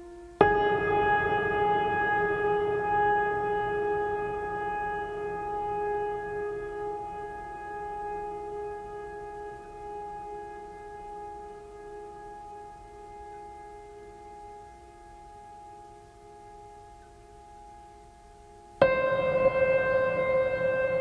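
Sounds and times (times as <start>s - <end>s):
ambient drone music: 0.0s - 21.0s.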